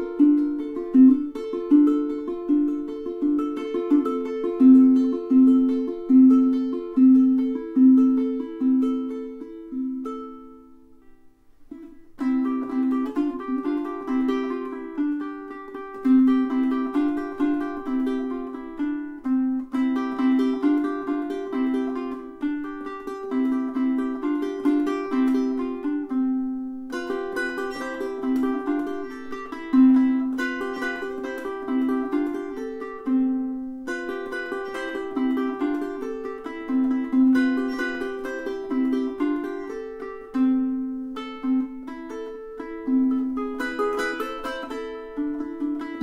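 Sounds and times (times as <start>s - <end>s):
ukulele plucked melody: 0.0s - 46.0s.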